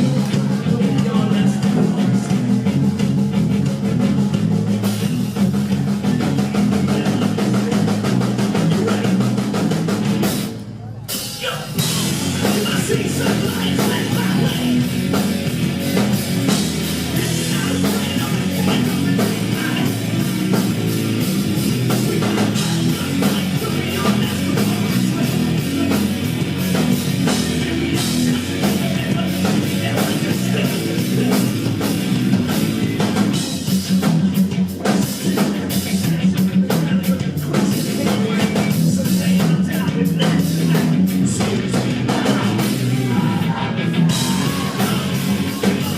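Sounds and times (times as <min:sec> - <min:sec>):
heavy drum beat: 0:00.0 - 0:10.6, 0:11.2 - 0:45.9
distorted guitars: 0:00.0 - 0:45.9
live hard rock band playing: 0:00.0 - 0:45.9.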